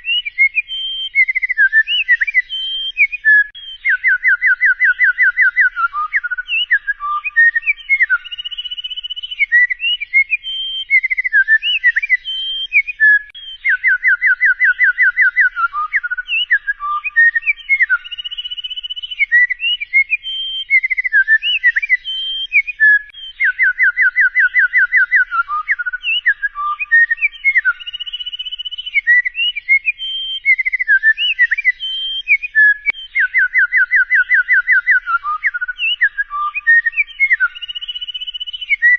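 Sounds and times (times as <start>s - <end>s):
songbird warbling: 0.0s - 38.9s.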